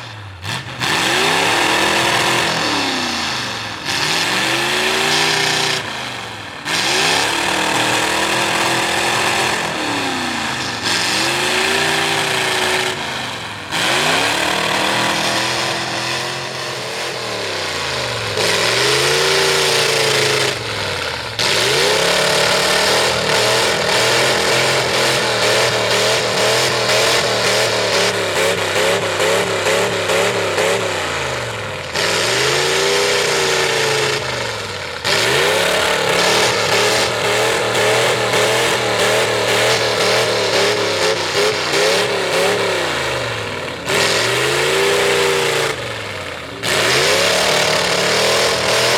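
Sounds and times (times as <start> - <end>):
truck engine revving hard: 0.0 - 48.9.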